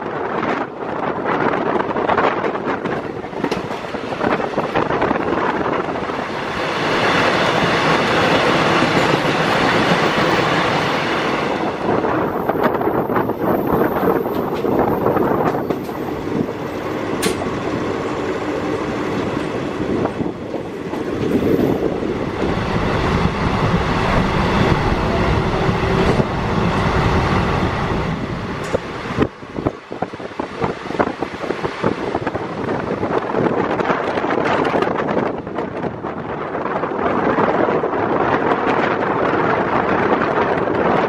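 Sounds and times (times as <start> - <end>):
station platform bustle: 0.0 - 41.0
train wheels rumbling on rails: 0.0 - 41.0
rushing air: 0.4 - 41.0.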